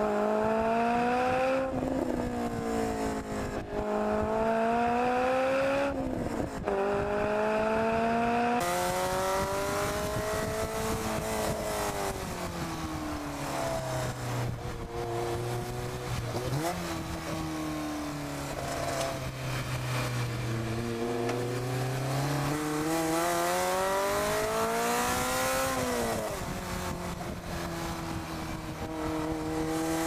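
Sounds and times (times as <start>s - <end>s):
car engine revving through gears: 0.0s - 30.0s.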